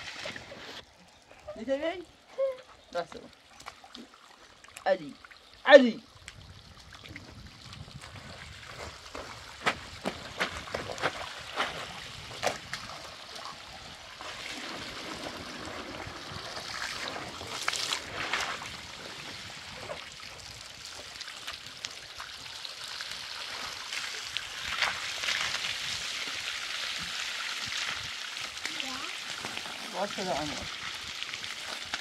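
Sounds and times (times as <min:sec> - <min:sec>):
water splashing: 0:00.0 - 0:02.0, 0:02.9 - 0:32.0
water sloshing and trickling: 0:00.0 - 0:32.0.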